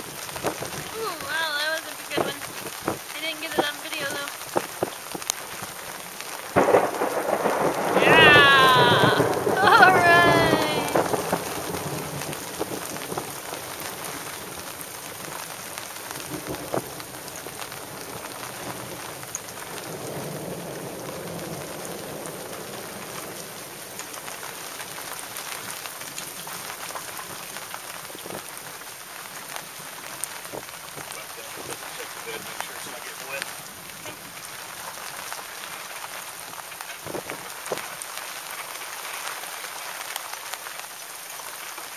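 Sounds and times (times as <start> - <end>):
steady rain falling: 0.0 - 41.9
low rumble of thunder: 4.3 - 38.0.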